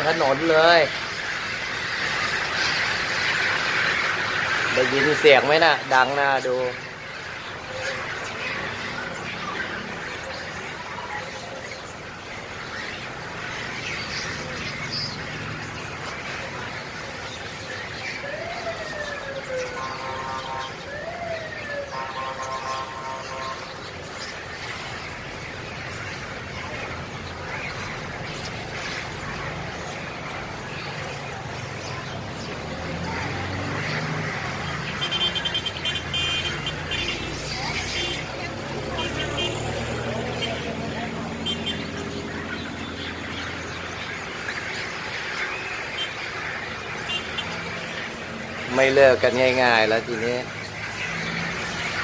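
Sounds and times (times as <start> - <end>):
car engines idling: 0.0 - 52.0
monkeys chattering and squealing: 0.0 - 52.0.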